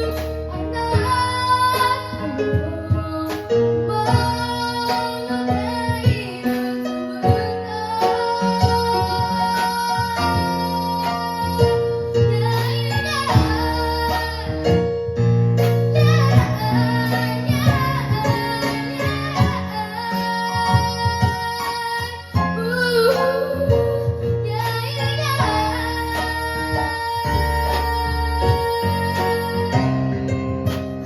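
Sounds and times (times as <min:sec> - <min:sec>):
child singing: 0:00.0 - 0:15.0, 0:15.8 - 0:30.3
drums: 0:00.0 - 0:31.0
keyboard: 0:00.0 - 0:31.0.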